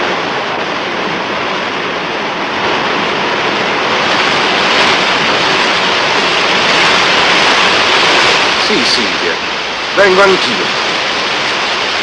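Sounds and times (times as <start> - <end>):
fountain water cascading over stone: 0.0 - 12.0.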